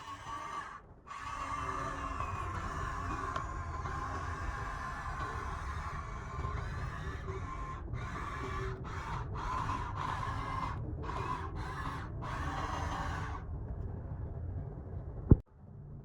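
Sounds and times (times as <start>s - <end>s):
electric motors whirring: 0.0s - 13.4s.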